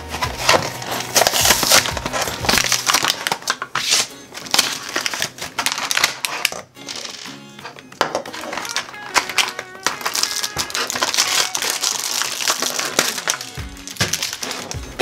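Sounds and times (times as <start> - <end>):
packaging crinkling and tearing: 0.1 - 7.2, 8.2 - 15.0.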